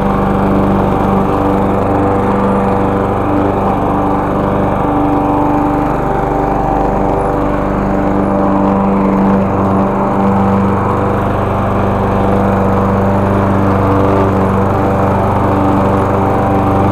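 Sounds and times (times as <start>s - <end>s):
lawn mower engine running: 0.0s - 16.9s.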